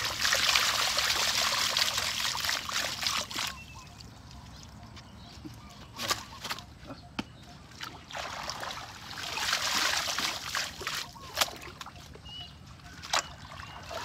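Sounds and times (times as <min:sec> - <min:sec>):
water splashing and sloshing: 0:00.0 - 0:06.7, 0:07.6 - 0:14.0.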